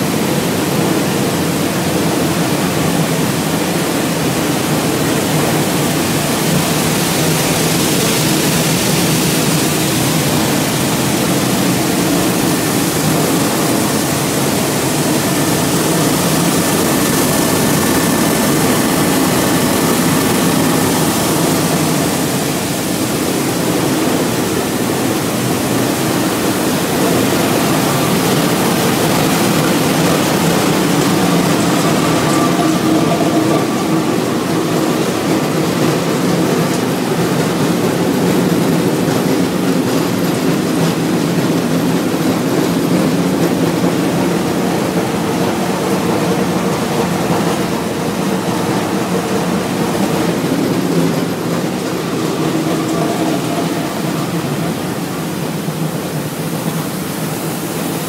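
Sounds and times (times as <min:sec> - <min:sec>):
production line machinery running: 0:00.0 - 0:58.0.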